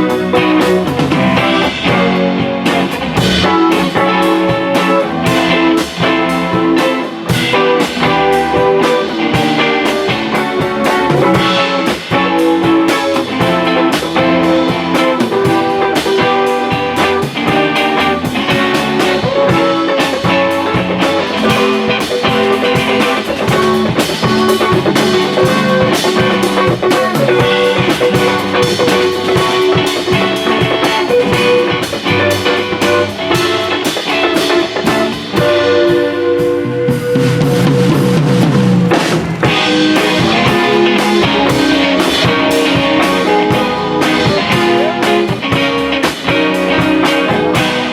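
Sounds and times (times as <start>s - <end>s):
bass guitar: 0.0s - 47.9s
drum kit: 0.0s - 47.9s
electric guitar: 0.0s - 47.9s.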